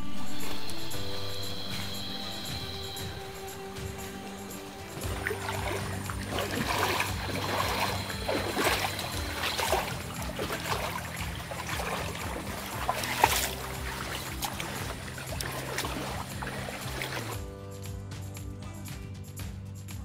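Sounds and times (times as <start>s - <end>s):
background music low notes: 0.0s - 20.0s
stream trickling and splashing: 0.2s - 17.5s.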